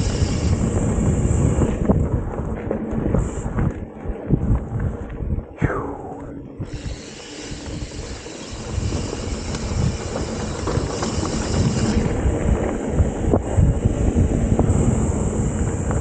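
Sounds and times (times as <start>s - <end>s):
bike rattling over bumps: 0.0s - 5.5s, 6.6s - 16.0s
wind on microphone: 0.0s - 16.0s.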